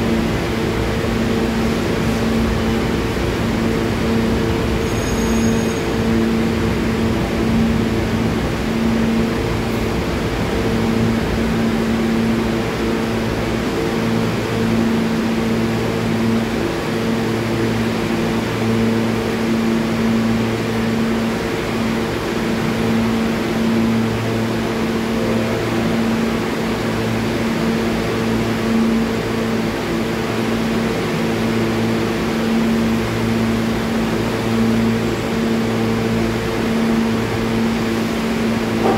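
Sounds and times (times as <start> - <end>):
low two-note drone: 0.0 - 38.9
subway car humming: 0.0 - 38.9.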